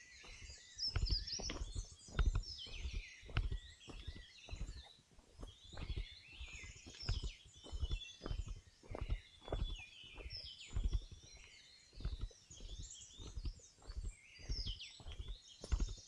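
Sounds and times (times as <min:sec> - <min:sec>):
birds chirping and singing: 0:00.0 - 0:16.0
footsteps on forest trail: 0:00.0 - 0:16.0.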